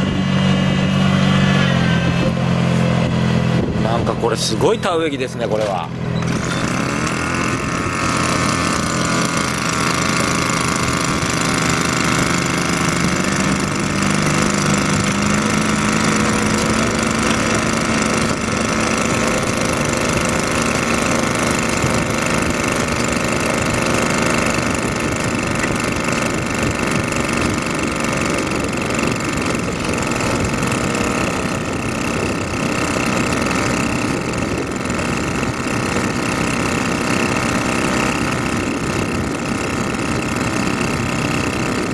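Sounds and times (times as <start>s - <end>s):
farm machine engine running: 0.0s - 41.9s.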